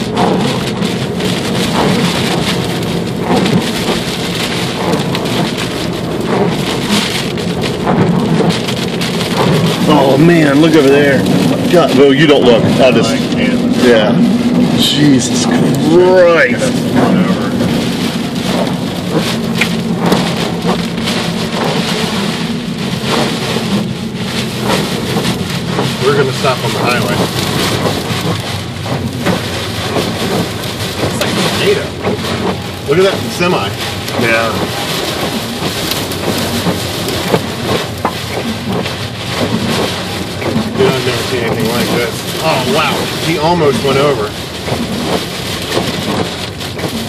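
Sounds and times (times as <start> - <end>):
heavy rain on car roof: 0.0 - 47.0.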